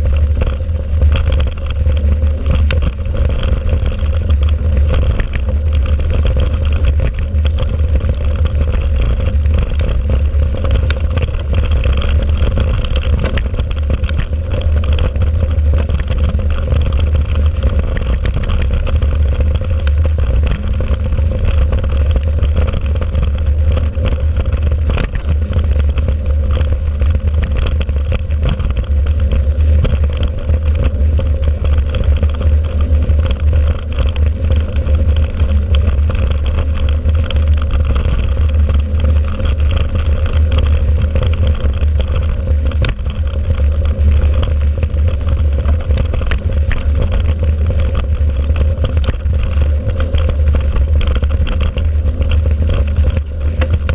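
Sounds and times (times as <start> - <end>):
bike rattling over bumps: 0.0 - 53.9.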